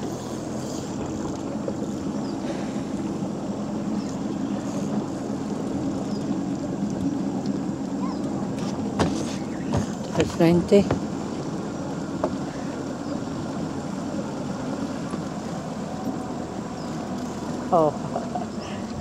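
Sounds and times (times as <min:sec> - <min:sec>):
outboard motor humming: 0:00.0 - 0:19.0
river water washing: 0:00.0 - 0:19.0.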